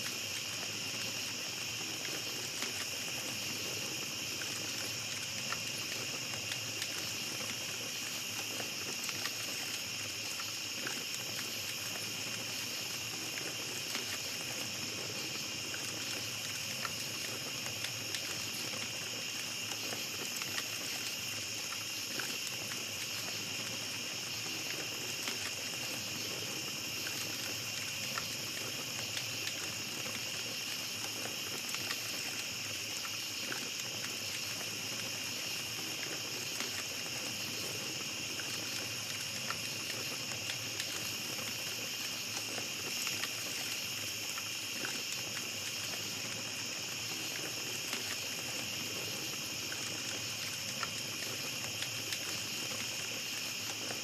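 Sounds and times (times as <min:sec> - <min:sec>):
campfire crackling: 0:00.0 - 0:54.0
crickets chirping: 0:00.0 - 0:54.0.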